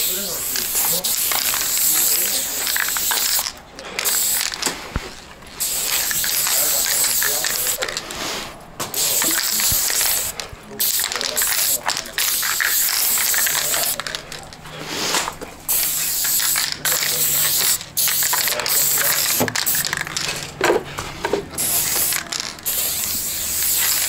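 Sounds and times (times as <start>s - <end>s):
spray paint can hissing: 0.0s - 4.8s, 5.6s - 8.1s, 8.9s - 14.6s, 15.7s - 20.4s, 21.6s - 24.0s.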